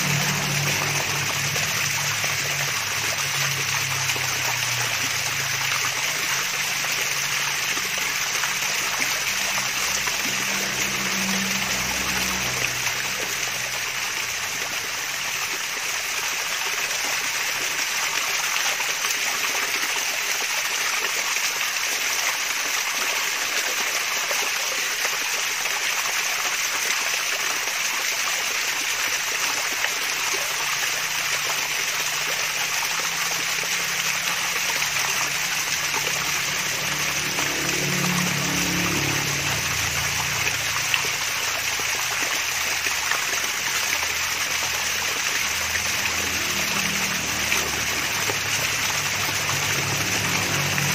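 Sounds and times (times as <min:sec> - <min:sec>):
water splashing and trickling: 0:00.0 - 0:50.9.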